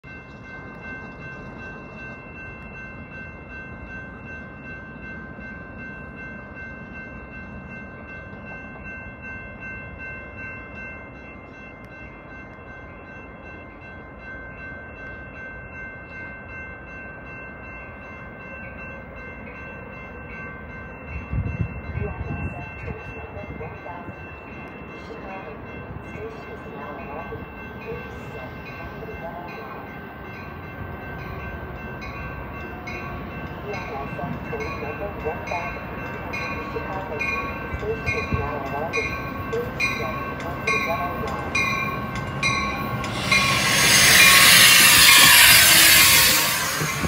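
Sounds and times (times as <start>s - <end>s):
constant high-pitched tones: 0.0s - 47.0s
train low rumble: 0.0s - 47.0s.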